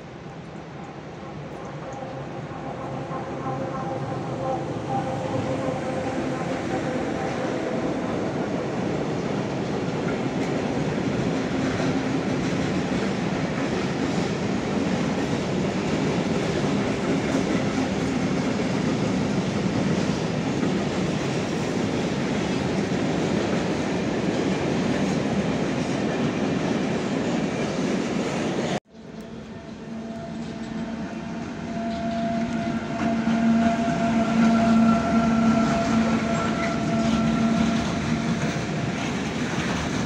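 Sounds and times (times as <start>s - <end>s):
train wheels rolling on rails: 4.0s - 40.0s.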